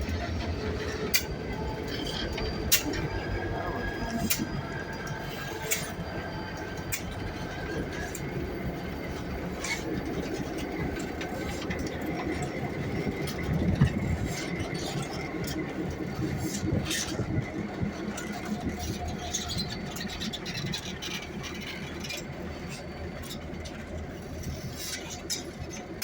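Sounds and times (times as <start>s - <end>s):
freight train rumbling past: 0.0s - 24.8s.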